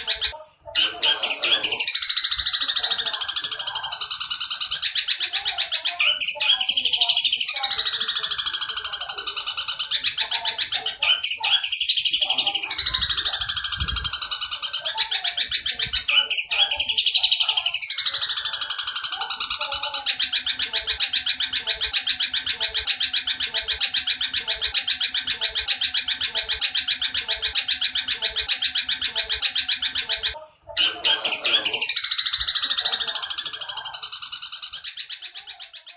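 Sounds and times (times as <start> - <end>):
bird harsh pulsed chatter: 0.0 - 35.9.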